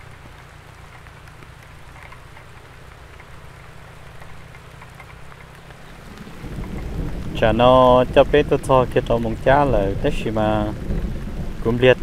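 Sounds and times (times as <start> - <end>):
raindrop ticks: 0.0 - 12.0
steady rain hiss: 0.0 - 12.0
low rumble: 2.0 - 12.0.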